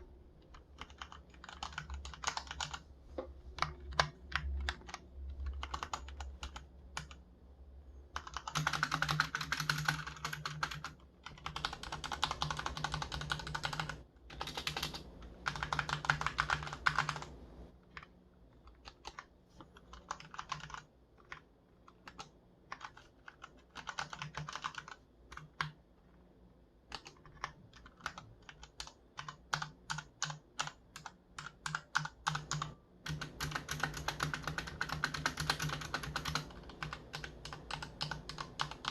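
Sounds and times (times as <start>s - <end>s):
mechanical keyboard typing: 0.4s - 2.8s, 3.5s - 7.2s, 8.1s - 25.8s, 26.9s - 38.9s.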